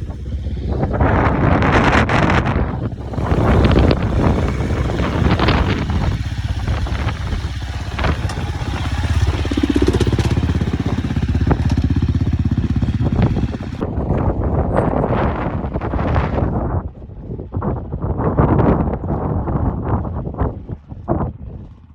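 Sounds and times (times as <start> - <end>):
dirt bike engine at low revs: 0.0 - 21.9.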